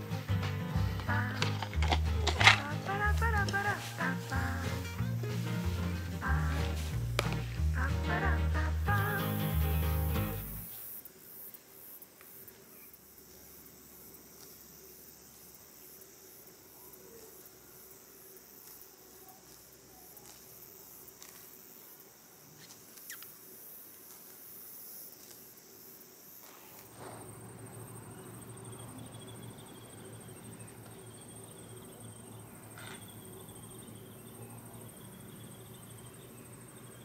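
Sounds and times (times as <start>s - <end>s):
high insect trill: 0.0s - 37.0s
insects chirring: 0.0s - 37.0s.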